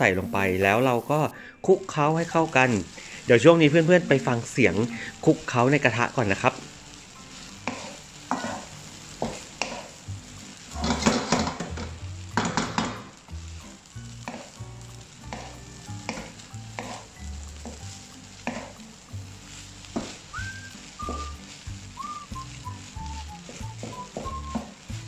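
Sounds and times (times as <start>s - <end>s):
rice sizzling: 0.0s - 25.0s
spatula scraping wok: 1.8s - 25.0s.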